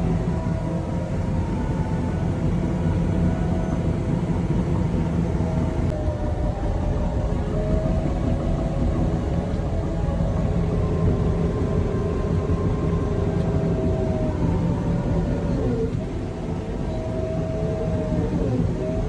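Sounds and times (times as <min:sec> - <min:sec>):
bulldozer diesel engine rumbling: 0:00.0 - 0:19.0
faint high whining tones: 0:00.0 - 0:19.0.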